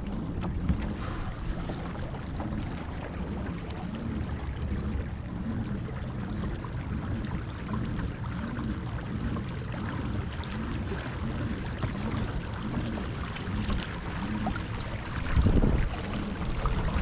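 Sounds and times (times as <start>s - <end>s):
kayak pedal drive whirring: 0.0s - 17.0s
low rumble: 0.0s - 17.0s
water rushing along hull: 0.0s - 17.0s.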